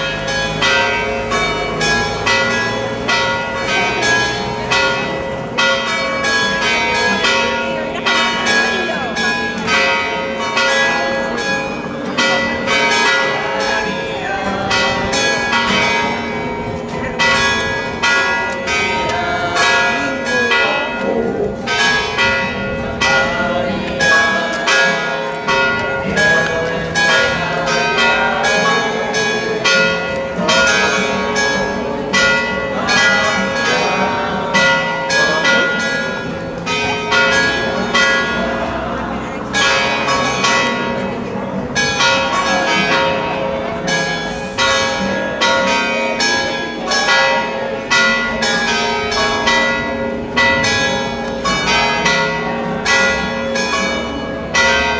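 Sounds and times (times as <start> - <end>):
church bells ringing a festive peal: 0.0 - 54.9
crowd talking: 0.0 - 54.9.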